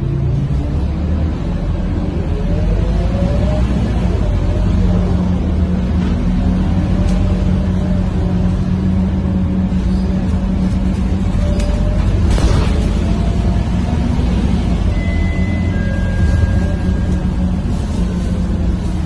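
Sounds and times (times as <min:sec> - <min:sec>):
diesel bus engine droning: 0:00.0 - 0:19.0.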